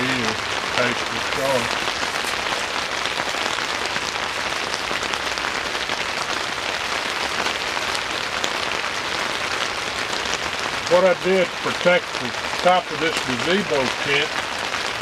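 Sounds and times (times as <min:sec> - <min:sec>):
rain on a tent roof: 0:00.0 - 0:15.0.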